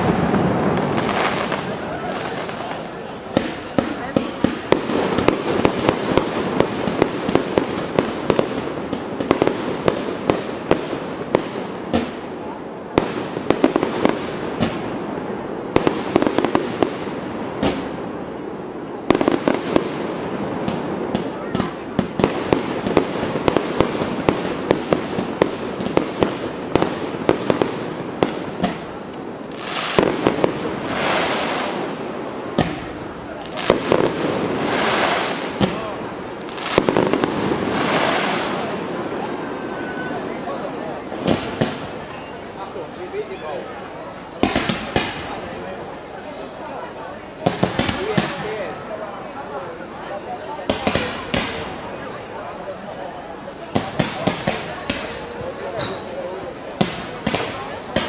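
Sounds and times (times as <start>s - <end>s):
fireworks banging: 0.0s - 49.2s, 50.6s - 53.0s, 53.6s - 58.0s
steady noisy background: 0.0s - 58.0s.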